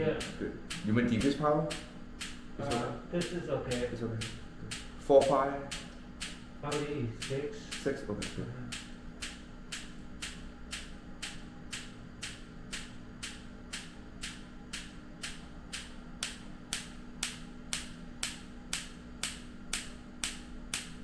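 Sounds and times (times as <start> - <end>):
sharp clicking pulses: 0.0 - 21.0
steady low hum: 0.0 - 21.0.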